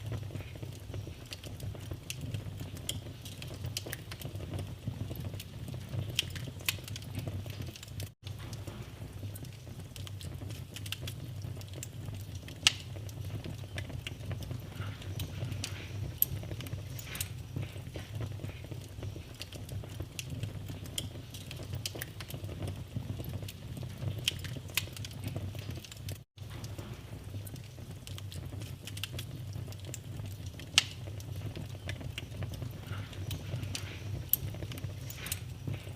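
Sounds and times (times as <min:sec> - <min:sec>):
low rumble of burning: 0:00.0 - 0:35.9
sharp pops of fire: 0:00.0 - 0:35.9
wood fire crackling: 0:00.0 - 0:35.9.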